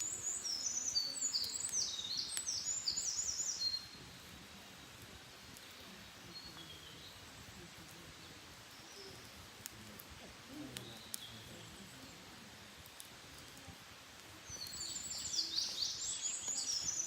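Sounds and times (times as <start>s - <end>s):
birds chirping: 0.0s - 12.4s, 14.4s - 17.0s
campfire crackling: 0.0s - 17.0s.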